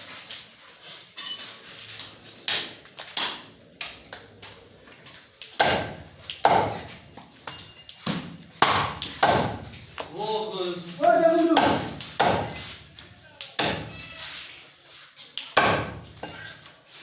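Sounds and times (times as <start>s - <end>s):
knife scraping on meat and block: 0.0s - 17.0s.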